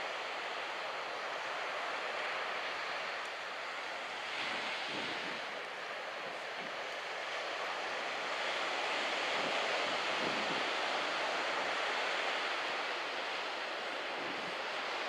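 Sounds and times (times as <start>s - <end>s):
waves washing on beach: 0.0s - 15.0s.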